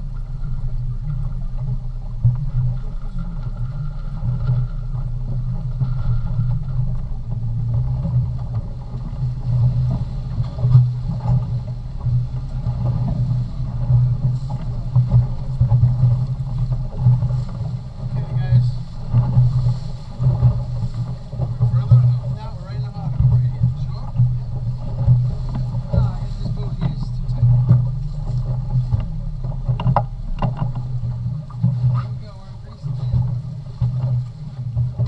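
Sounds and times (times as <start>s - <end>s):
boat engine rumbling: 0.0s - 35.0s.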